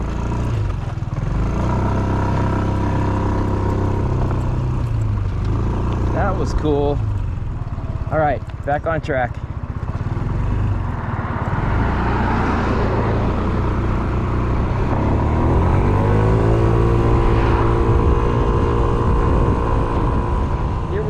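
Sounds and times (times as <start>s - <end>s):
scooter engine accelerating: 0.0s - 21.0s
wind and road noise: 0.0s - 21.0s.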